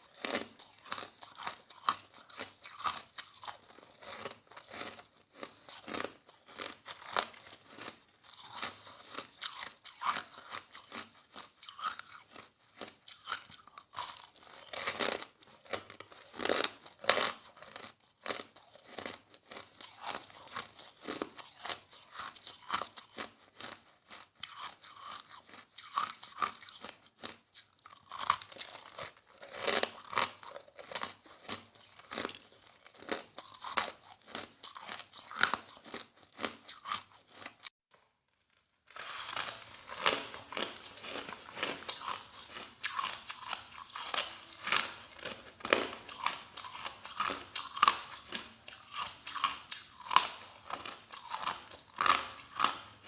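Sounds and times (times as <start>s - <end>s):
person chewing ice: 0.0s - 37.8s, 38.6s - 53.0s.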